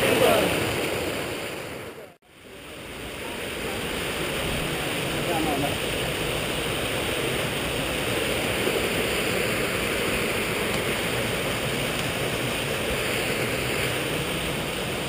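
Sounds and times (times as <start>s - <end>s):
stream cascading over rocks: 0.0s - 15.0s.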